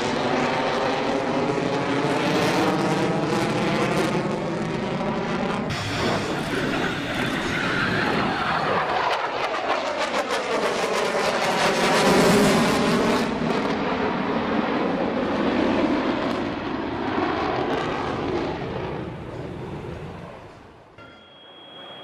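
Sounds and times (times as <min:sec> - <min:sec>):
fighter jet engines roaring overhead: 0:00.0 - 0:22.0.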